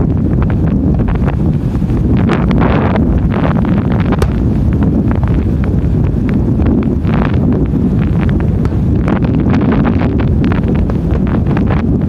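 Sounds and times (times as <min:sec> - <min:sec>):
wind noise on microphone: 0:00.0 - 0:12.0
fireworks bursting and crackling: 0:00.1 - 0:12.0.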